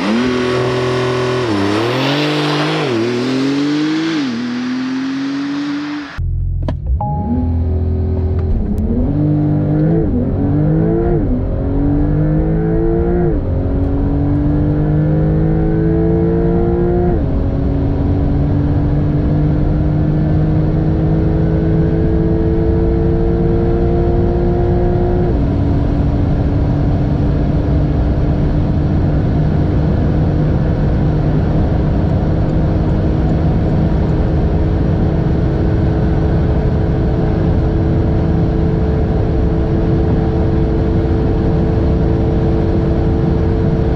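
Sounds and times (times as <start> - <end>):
car engine accelerating: 0.0 - 43.9
wind and road noise: 0.0 - 43.9.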